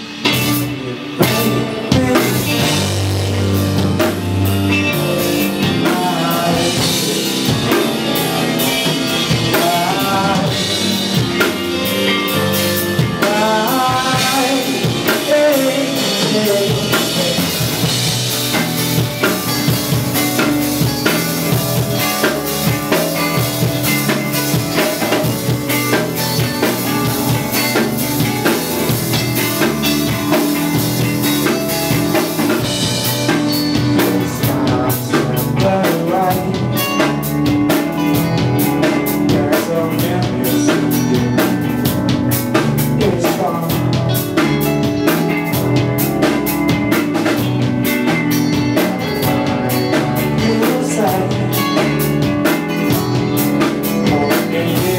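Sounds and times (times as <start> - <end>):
bass guitar: 0.0 - 54.9
drum kit beat: 0.0 - 54.9
electric guitar: 0.0 - 54.9.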